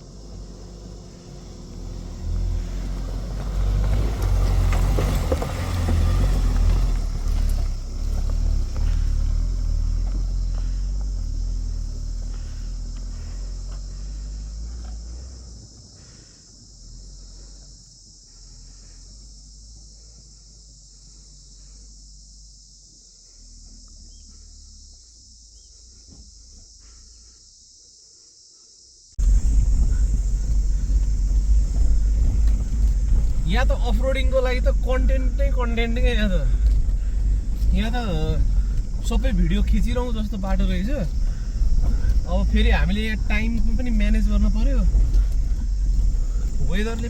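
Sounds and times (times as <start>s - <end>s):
vehicle engine rumble: 0.0s - 27.8s, 29.0s - 47.0s
insects chirring: 0.0s - 47.0s.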